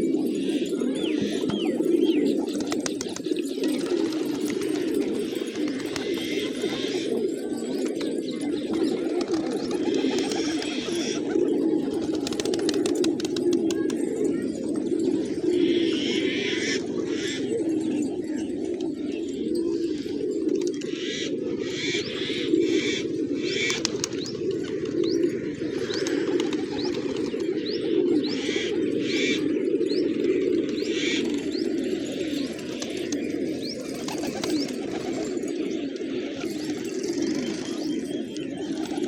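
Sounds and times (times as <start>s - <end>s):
pigeons cooing: 0.0s - 39.0s.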